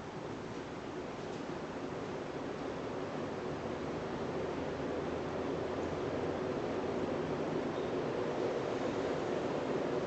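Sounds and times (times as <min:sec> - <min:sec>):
ceiling fan running: 0:00.0 - 0:10.0.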